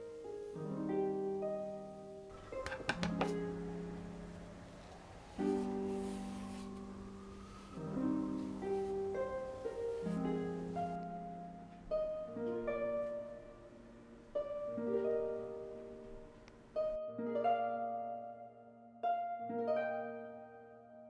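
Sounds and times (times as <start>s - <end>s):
soft music chords: 0.0s - 20.9s.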